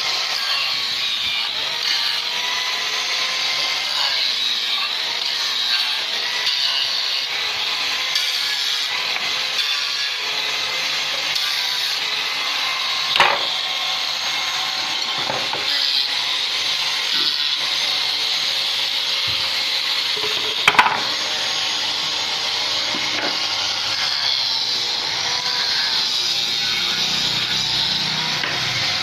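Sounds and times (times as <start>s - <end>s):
power tool whining on wood: 0.0s - 29.0s.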